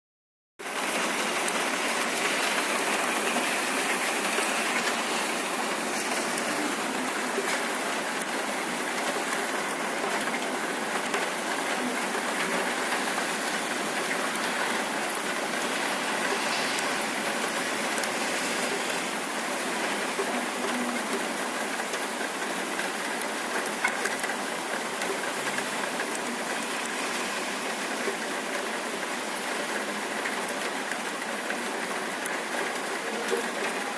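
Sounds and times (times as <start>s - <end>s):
rain falling steadily: 0.6s - 33.9s.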